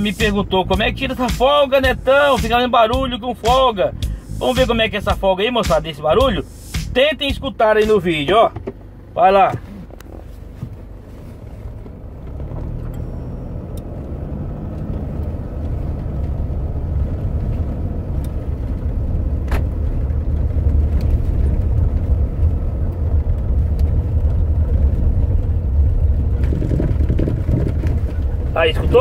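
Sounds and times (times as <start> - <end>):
brake pedal knocking: 0.0 - 16.4, 19.3 - 29.0
vehicle cab rumble: 0.0 - 29.0.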